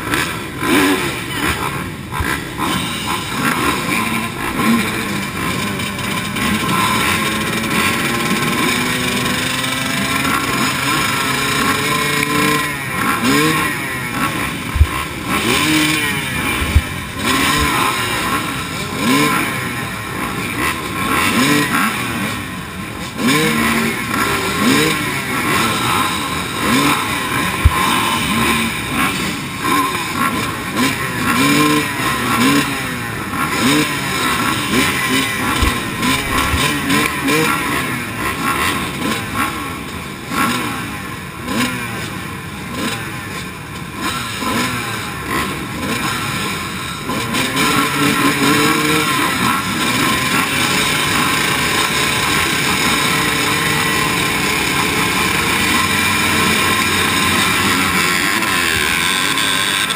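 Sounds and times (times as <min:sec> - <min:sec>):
motocross bikes idling and revving: 0:00.0 - 0:59.9.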